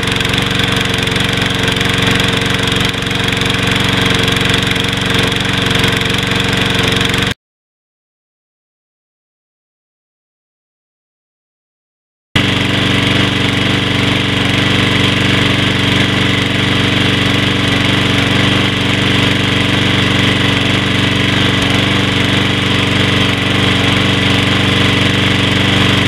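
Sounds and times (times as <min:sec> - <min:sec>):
lawn mower engine running: 0:00.0 - 0:07.4, 0:12.4 - 0:26.0.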